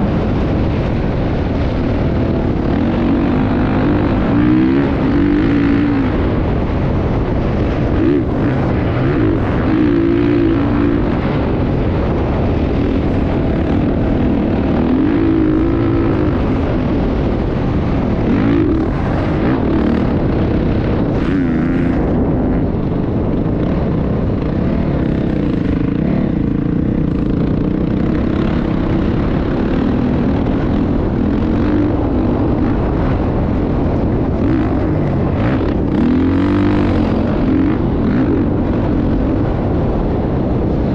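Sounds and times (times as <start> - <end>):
motocross bike engine revving: 0.0 - 40.2
constant low rumble: 0.0 - 40.9.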